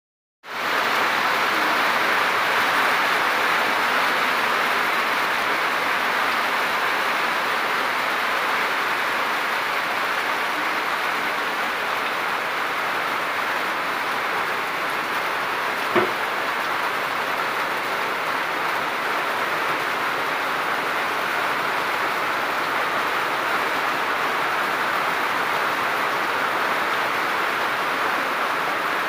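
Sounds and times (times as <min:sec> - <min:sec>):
heavy rain pouring: 0:00.5 - 0:29.0.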